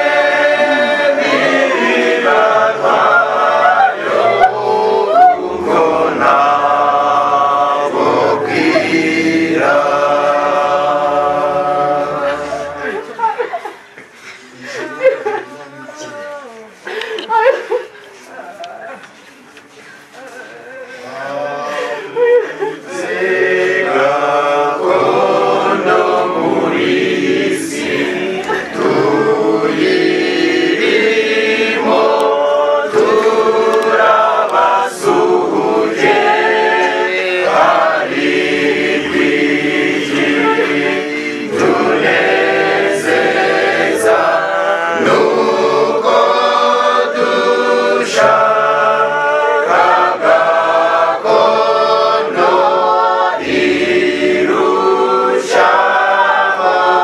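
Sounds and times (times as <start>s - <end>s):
choir singing in harmony: 0.0s - 13.6s, 21.2s - 57.0s.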